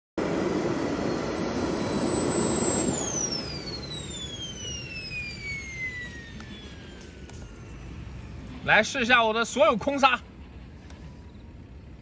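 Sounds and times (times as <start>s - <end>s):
electric ducted fan whining: 0.2s - 12.0s.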